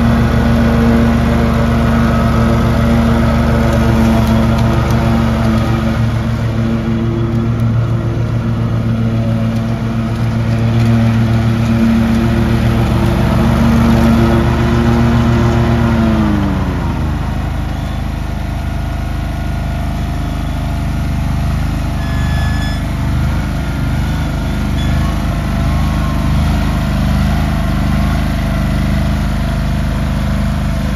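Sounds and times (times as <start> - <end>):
lawn tractor engine running: 0.0 - 30.9.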